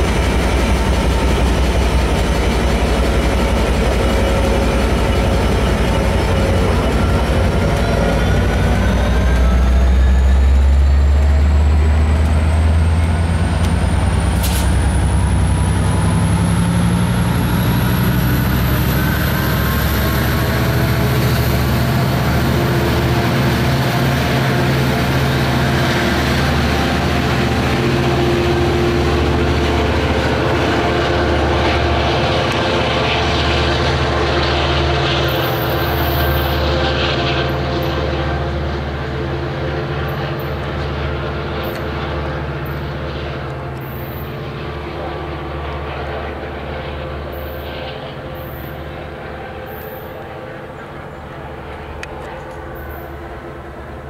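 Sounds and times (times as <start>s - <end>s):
diesel engine running: 0.0s - 54.0s
high whine rising in pitch: 2.9s - 49.0s.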